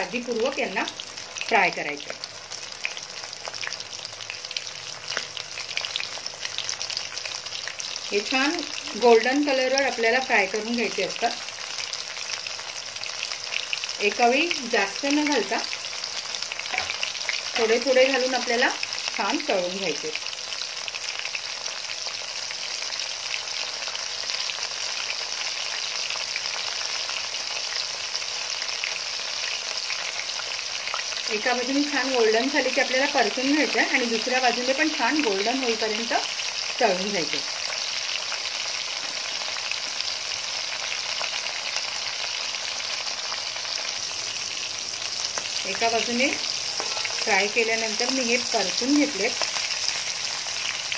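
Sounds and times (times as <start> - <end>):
prawns deep-frying in oil: 0.0 - 50.9.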